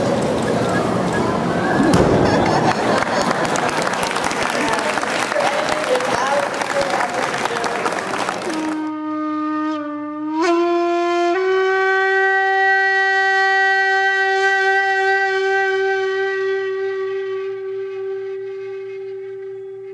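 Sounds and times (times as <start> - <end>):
wind instrument playing: 0.9 - 19.9.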